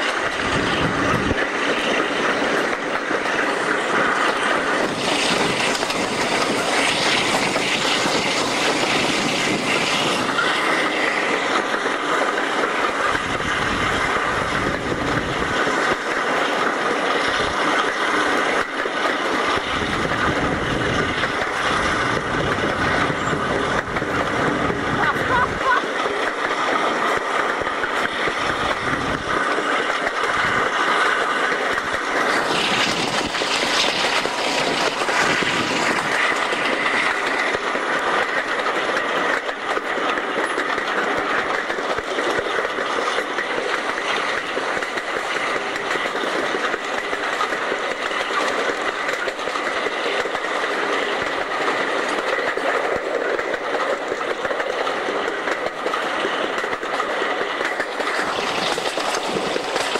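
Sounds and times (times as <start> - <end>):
train wheels knocking: 0.0 - 59.9
train wheels rumbling on rails: 0.0 - 59.9.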